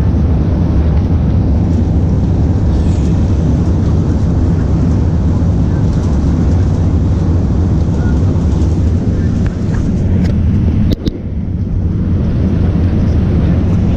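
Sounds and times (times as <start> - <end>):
airliner engines rumbling: 0.0 - 13.9.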